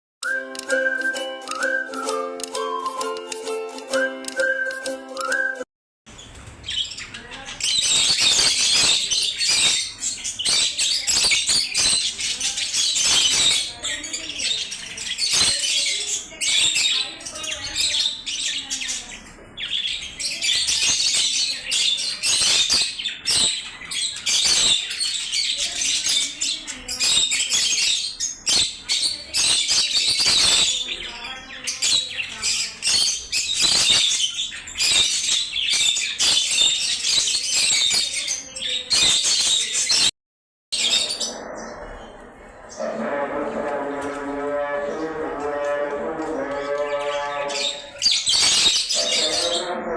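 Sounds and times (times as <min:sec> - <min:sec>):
lovebirds chirping and chattering: 0:06.1 - 0:40.1, 0:40.7 - 0:49.9.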